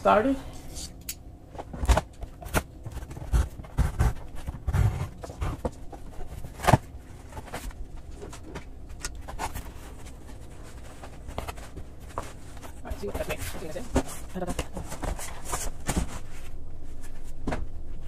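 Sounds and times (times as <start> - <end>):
cardboard flaps bumping: 1.6 - 16.5, 17.1 - 18.0
cardboard rustling: 1.6 - 18.0.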